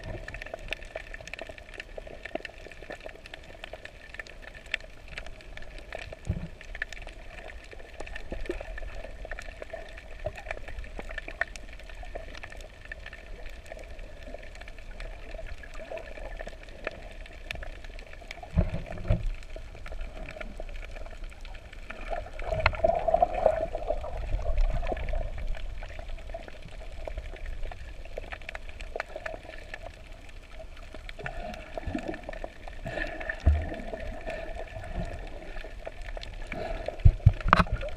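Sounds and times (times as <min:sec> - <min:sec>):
muffled underwater water sloshing: 0:00.0 - 0:37.9.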